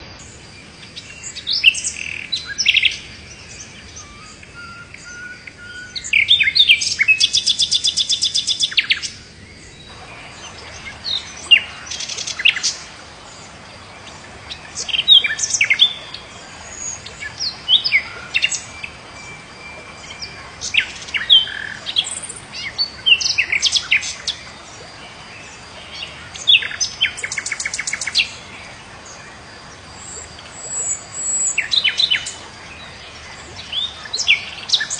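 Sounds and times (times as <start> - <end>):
birds chirping: 0.0 - 34.9
faint steady hiss: 0.0 - 34.9.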